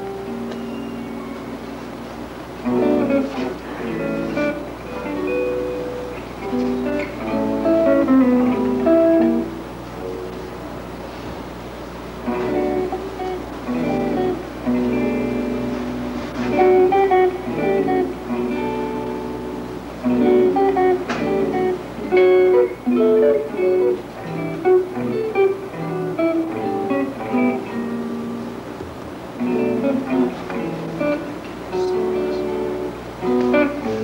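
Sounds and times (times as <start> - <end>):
electric guitar playing: 0.0 - 11.0, 11.6 - 34.0.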